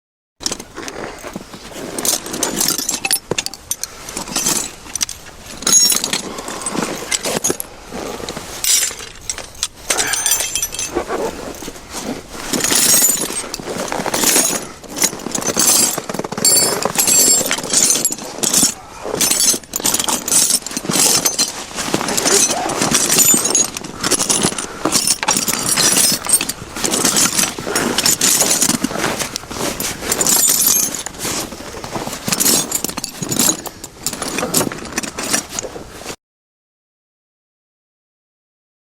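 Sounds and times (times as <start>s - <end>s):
rummaging clattering and rustling: 0.4s - 36.2s.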